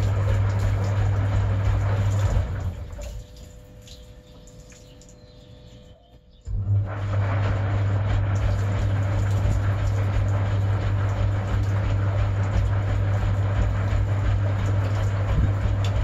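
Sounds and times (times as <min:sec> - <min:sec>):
water sloshing in drum: 0:00.0 - 0:05.8, 0:06.6 - 0:16.0
washing machine motor humming: 0:00.0 - 0:16.0.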